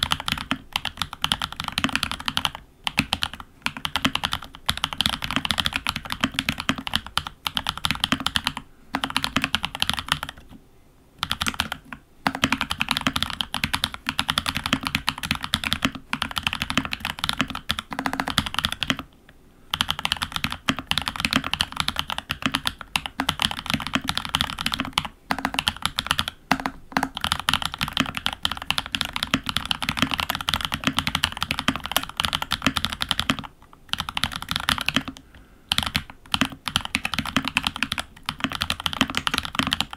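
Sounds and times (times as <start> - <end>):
mechanical keyboard typing: 0.0 - 10.6, 11.2 - 19.1, 19.7 - 39.9.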